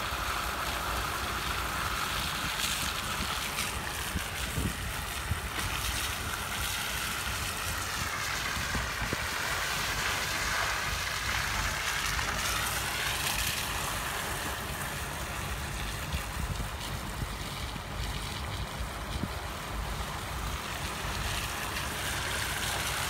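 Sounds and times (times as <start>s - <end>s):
car tyres on wet slushy road: 0.0s - 23.0s
wind rumble on microphone: 1.4s - 23.0s.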